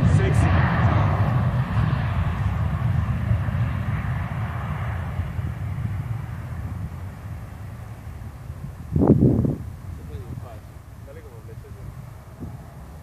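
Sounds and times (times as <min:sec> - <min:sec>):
jet engine rush: 0:00.0 - 0:13.0
wind rumble on microphone: 0:00.0 - 0:13.0.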